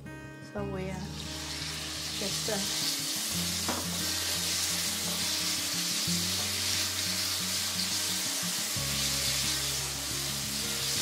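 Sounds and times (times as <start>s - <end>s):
meat sizzling in hot oil: 1.0s - 11.0s.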